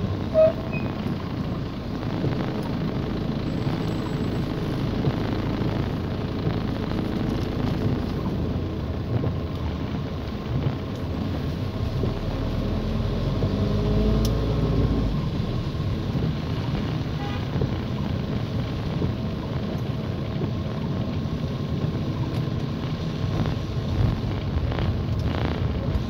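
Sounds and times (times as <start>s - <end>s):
car engine: 0.0s - 26.0s
tyres on wet road: 0.0s - 26.0s.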